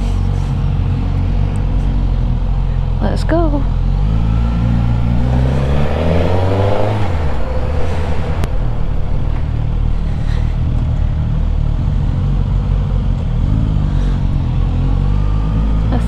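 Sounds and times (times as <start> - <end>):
motorcycle engine pulling away: 0.0 - 16.0.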